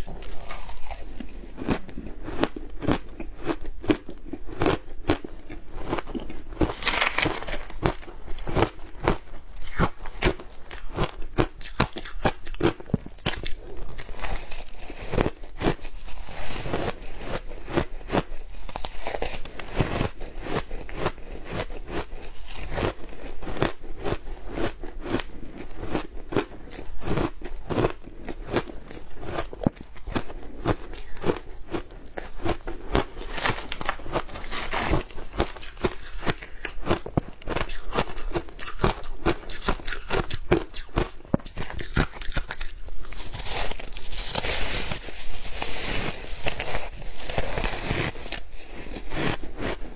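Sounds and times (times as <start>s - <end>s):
crunching ice: 0.0s - 49.9s.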